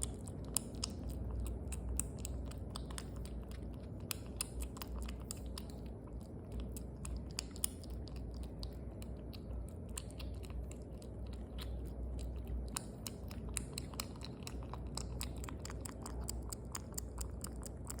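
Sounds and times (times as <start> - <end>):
cat chewing food: 0.0 - 18.0.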